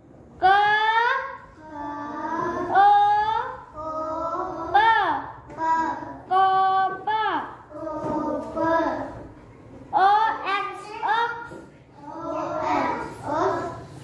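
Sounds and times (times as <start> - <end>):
child reading in sing-song chant: 0.4 - 14.0.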